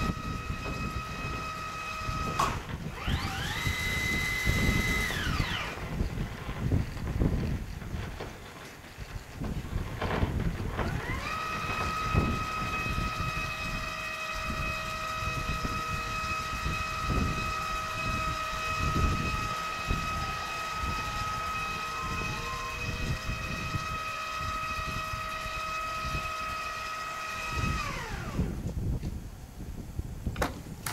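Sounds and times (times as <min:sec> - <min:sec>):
low rumble: 0:00.0 - 0:26.3
sliding door motor whining: 0:00.0 - 0:28.8.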